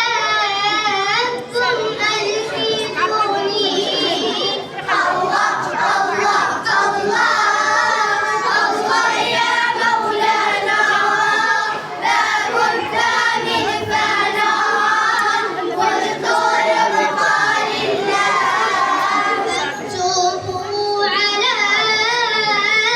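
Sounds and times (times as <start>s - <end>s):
children singing together: 0.0s - 22.9s.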